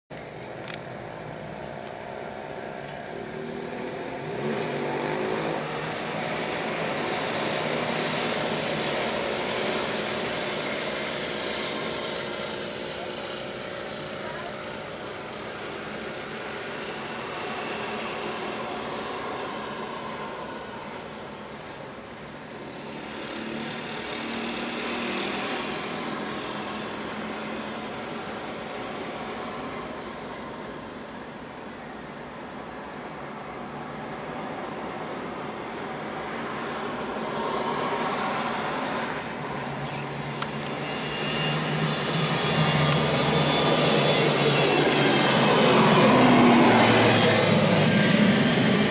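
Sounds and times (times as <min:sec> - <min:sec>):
turboprop airliner engines droning: 0:00.1 - 0:48.9.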